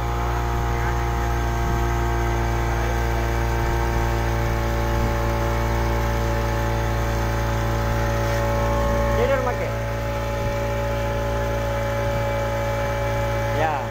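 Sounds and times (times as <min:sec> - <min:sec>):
boat wake rushing: 0:00.0 - 0:13.9
outboard motor drone: 0:00.0 - 0:13.9.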